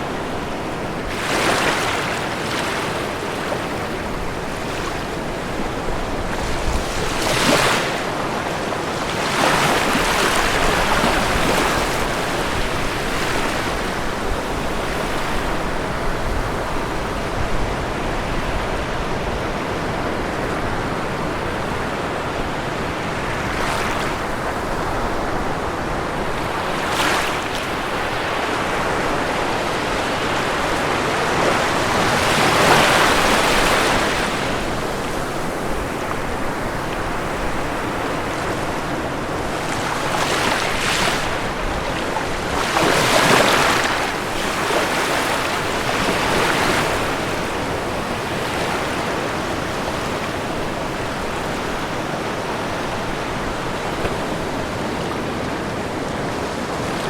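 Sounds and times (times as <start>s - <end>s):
ocean surf washing onto shore: 0.0s - 57.0s
waves breaking: 0.0s - 57.0s.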